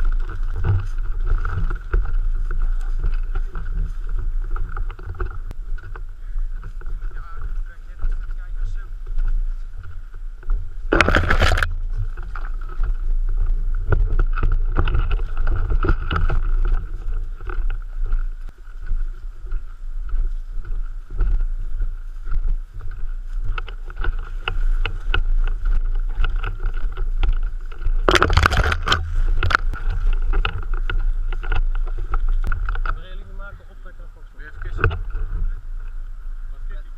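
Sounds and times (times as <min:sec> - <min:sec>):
low wind rumble on microphone: 0:00.0 - 0:36.9.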